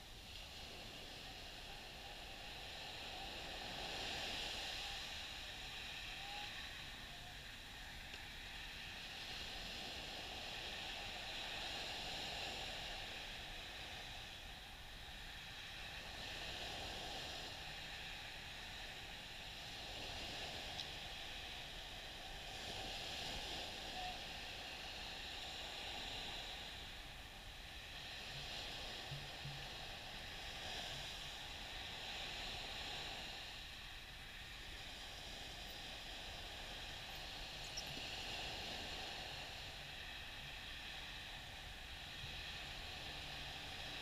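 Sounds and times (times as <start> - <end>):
gentle surf on sandy beach: 0.0 - 44.0.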